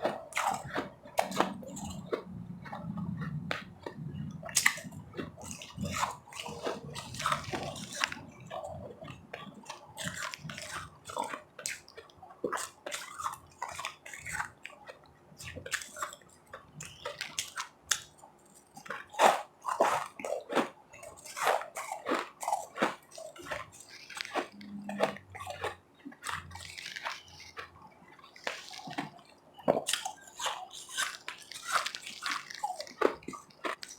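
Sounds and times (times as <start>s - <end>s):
chewing ice crunches: 0.0s - 33.9s.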